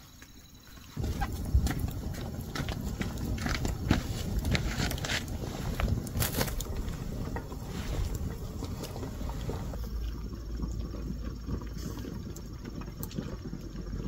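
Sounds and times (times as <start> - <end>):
fire crackling: 0.0 - 14.0
fire rumbling: 0.6 - 14.0.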